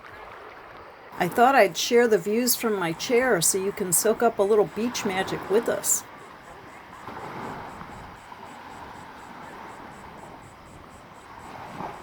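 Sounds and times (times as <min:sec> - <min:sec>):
insect chirping: 0:00.9 - 0:12.0.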